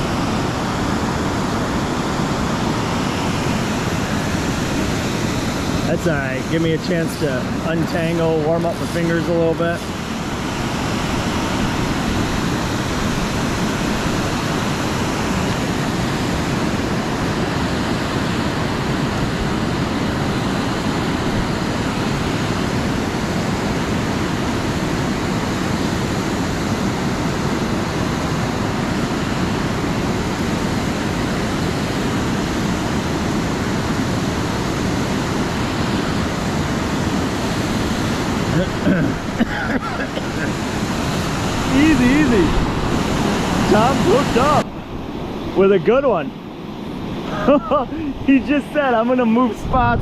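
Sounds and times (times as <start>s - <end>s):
river water rushing: 0.0s - 50.0s.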